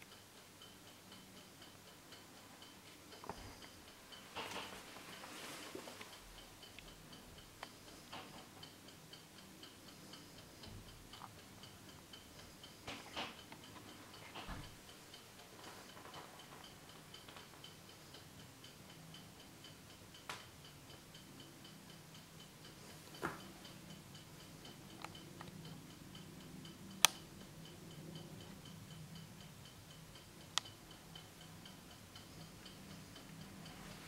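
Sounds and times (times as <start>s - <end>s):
clock ticking: 0.0s - 34.0s.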